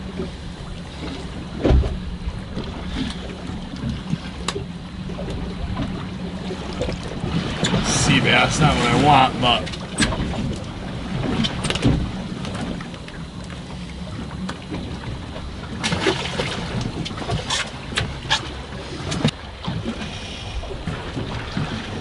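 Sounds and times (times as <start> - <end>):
knocks and clicks on boat: 0.0 - 22.0
sea water washing around boat: 0.0 - 22.0.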